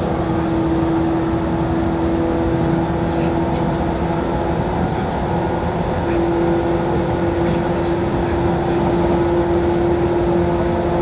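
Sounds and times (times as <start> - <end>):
electric train rumble inside car: 0.0 - 11.0.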